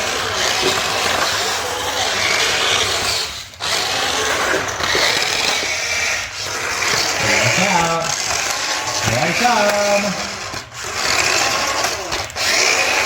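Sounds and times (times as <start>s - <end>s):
toy car motors whirring: 0.0s - 13.0s.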